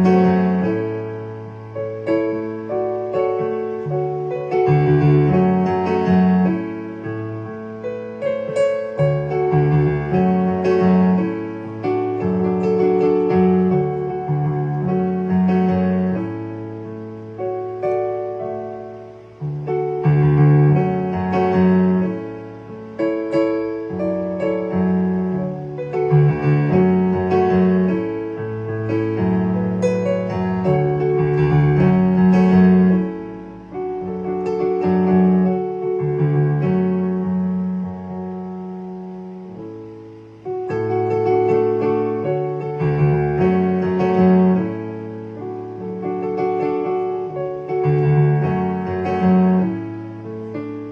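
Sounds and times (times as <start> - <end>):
keyboard playing chords: 0.0 - 50.9.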